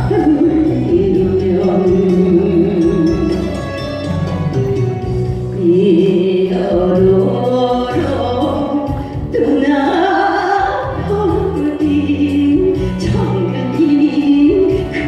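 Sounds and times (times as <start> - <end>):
person singing with vibrato: 0.0 - 4.5, 5.3 - 15.0
backing track with bass: 0.0 - 15.0.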